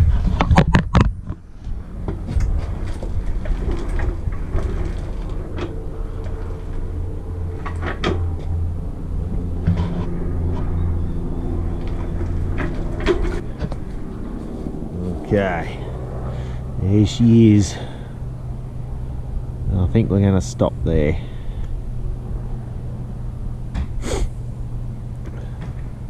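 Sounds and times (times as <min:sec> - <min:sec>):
lawnmower engine running: 0:01.4 - 0:26.0.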